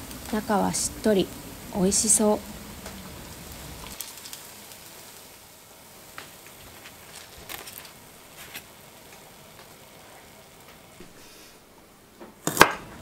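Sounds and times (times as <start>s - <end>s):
deep-frying oil crackling: 0.0s - 13.0s.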